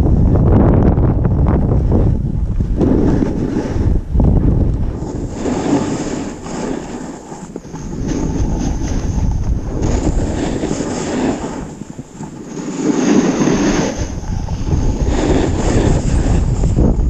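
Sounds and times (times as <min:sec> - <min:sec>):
snowboard scraping over snow: 0:00.0 - 0:17.0
wind buffeting microphone: 0:00.0 - 0:17.0.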